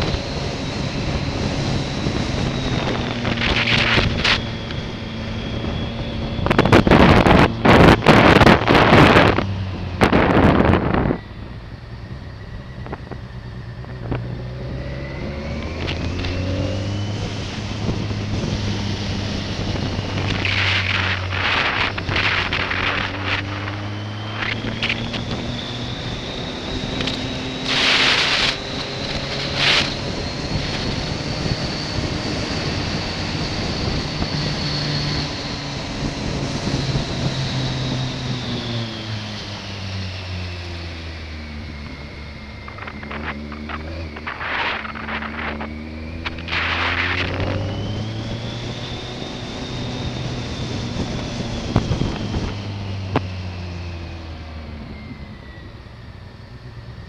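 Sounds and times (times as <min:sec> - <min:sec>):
thin high whine: 0:00.0 - 0:09.4, 0:10.0 - 0:57.0
wind gusts on microphone: 0:00.0 - 0:11.4, 0:14.0 - 0:40.1, 0:40.7 - 0:55.8
motorcycle engine running: 0:00.0 - 0:57.0.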